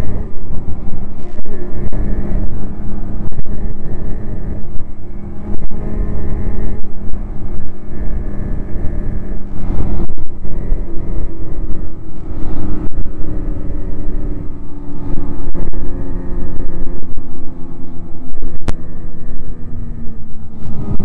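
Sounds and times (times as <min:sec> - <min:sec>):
snowmobile engine running: 0:00.0 - 0:21.0
wind rumble on microphone: 0:00.0 - 0:21.0.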